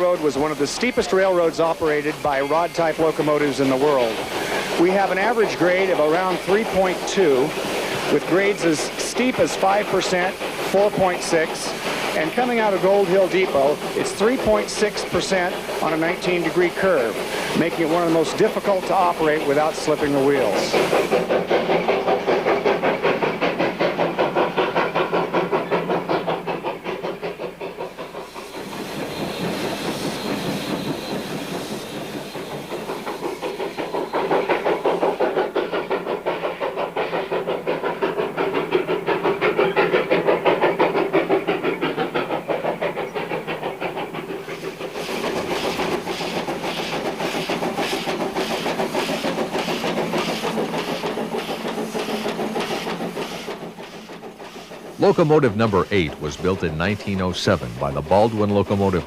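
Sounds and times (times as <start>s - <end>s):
steam hissing: 0.0s - 59.0s
steam locomotive exhaust chuffs: 0.0s - 59.0s
train clatter: 0.0s - 59.0s.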